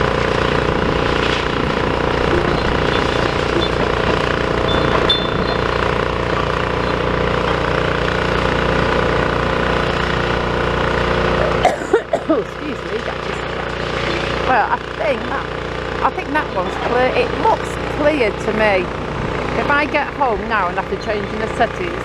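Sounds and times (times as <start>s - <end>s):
large engine running: 0.0s - 22.0s.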